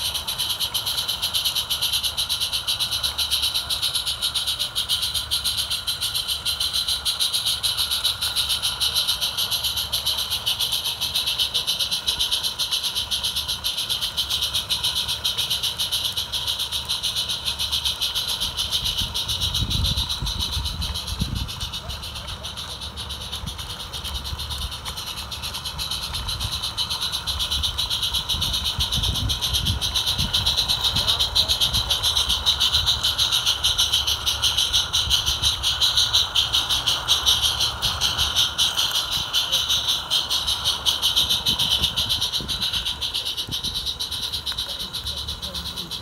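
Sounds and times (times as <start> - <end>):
model steam locomotive chuffing: 0.0 - 46.0
steam hissing: 0.0 - 46.0.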